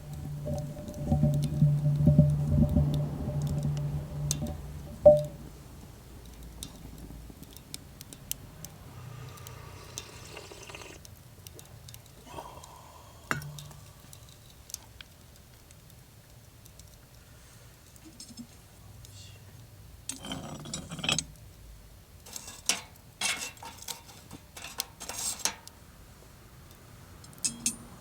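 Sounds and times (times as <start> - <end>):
wood fire crackling: 0.0 - 27.3.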